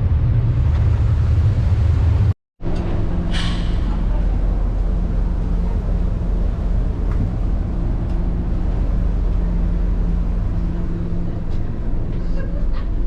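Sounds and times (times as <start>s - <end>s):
ferry engine hum: 0.0s - 13.0s
noisy rush: 0.0s - 13.0s.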